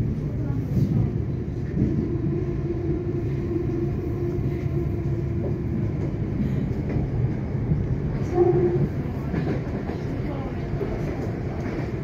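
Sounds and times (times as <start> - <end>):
train carriage rumble on track: 0.0 - 12.0.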